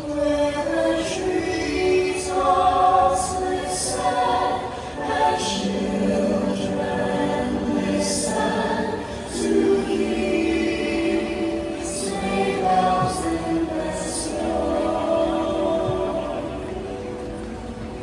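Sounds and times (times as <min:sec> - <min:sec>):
choir singing over loudspeakers: 0:00.0 - 0:18.0.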